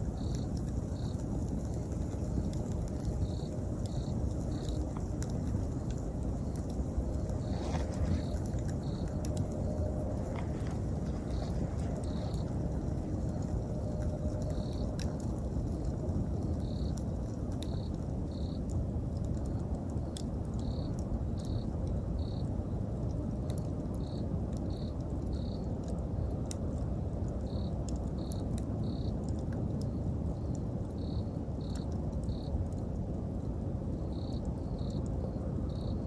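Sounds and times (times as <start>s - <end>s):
cricket chirping: 0.0s - 26.5s, 27.4s - 32.8s, 33.9s - 36.0s
campfire crackling: 0.0s - 36.0s.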